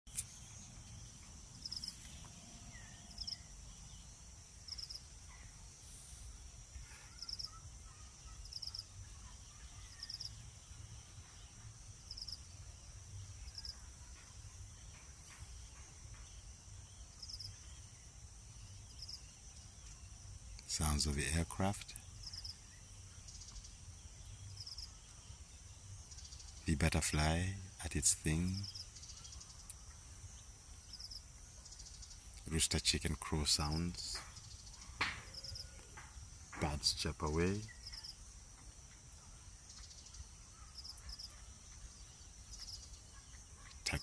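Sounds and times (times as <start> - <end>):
insects droning: 0.1 - 44.0
faint bird calls: 1.6 - 44.0.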